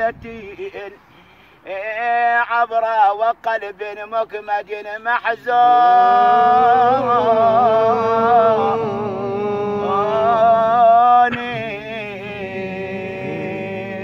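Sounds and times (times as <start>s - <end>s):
man chanting a lament: 0.0s - 1.0s, 1.6s - 14.0s.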